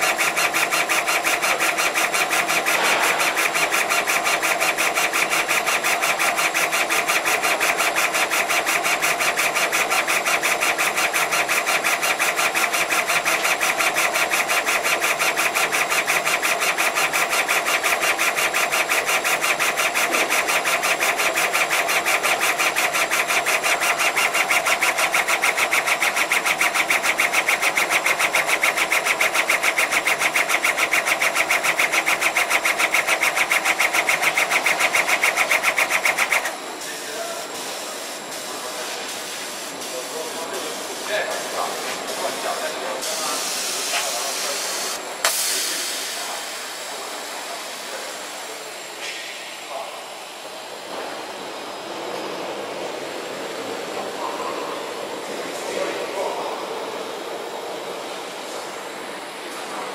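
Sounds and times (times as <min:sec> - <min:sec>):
laser cutting machine pulsing: 0:00.0 - 0:51.9.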